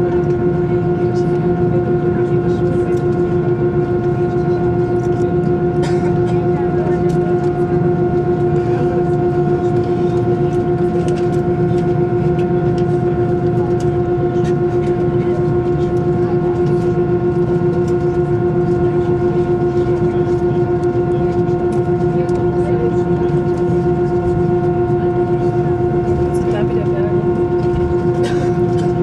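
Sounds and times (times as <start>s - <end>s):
jet engines droning: 0.0s - 29.0s.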